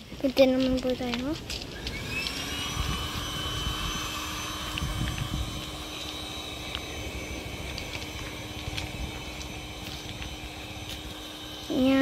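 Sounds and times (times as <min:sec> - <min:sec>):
machine hum and whine: 0:00.0 - 0:12.0
uneven low rumbling: 0:00.0 - 0:12.0.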